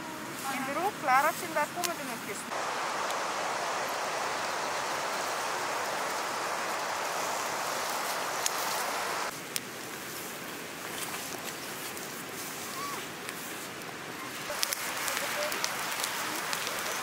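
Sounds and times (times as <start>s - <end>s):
rain on wet vegetation: 0.2s - 17.0s.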